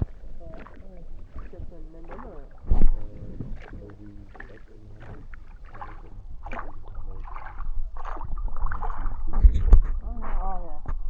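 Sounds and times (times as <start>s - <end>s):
low rumble: 0.0s - 10.2s
oars splashing in water: 0.0s - 10.4s.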